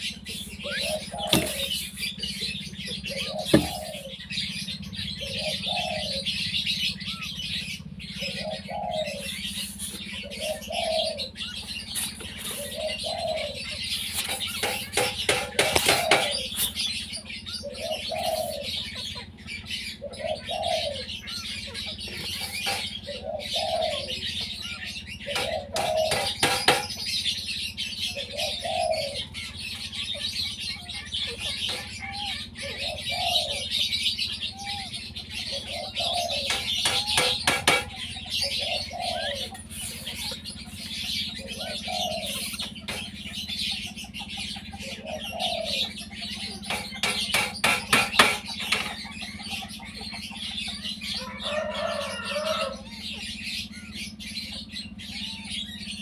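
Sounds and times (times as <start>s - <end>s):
soft bird call: 0.0s - 27.0s, 28.0s - 56.0s.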